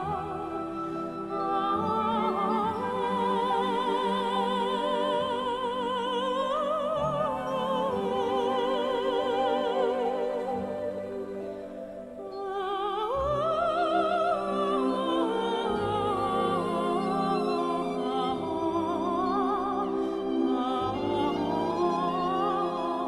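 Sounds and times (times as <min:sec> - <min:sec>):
operatic soprano singing: 0:00.0 - 0:23.0.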